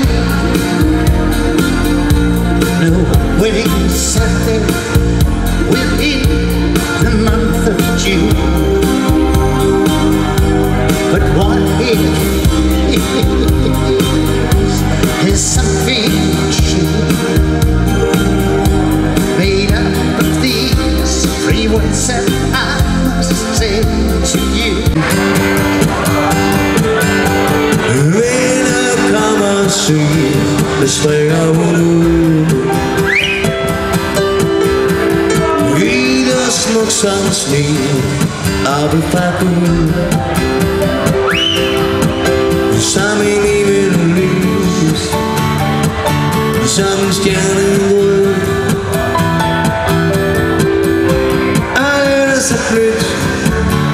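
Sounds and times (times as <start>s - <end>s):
electronic keyboard dance music: 0.0s - 53.9s
heavy bass beat: 0.0s - 53.9s.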